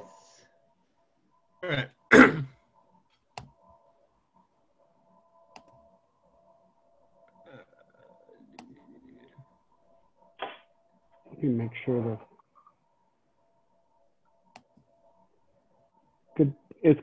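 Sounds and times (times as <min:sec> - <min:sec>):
faint steady tone: 0:00.0 - 0:17.0.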